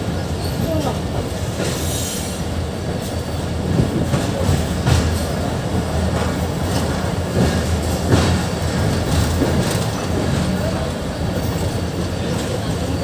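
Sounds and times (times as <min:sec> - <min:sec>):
train rumble: 0:00.0 - 0:13.0
train wheel clacks: 0:00.0 - 0:13.0.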